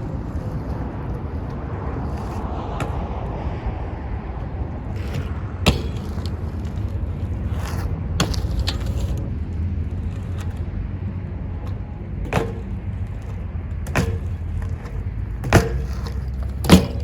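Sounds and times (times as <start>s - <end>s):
wind buffeting microphone: 0.0s - 16.7s.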